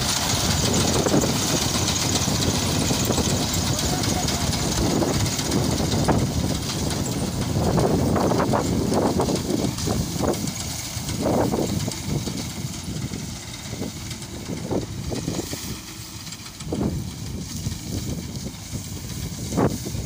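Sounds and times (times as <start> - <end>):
dry straw rustling: 0.0 - 20.0
tractor engine running: 0.0 - 20.0.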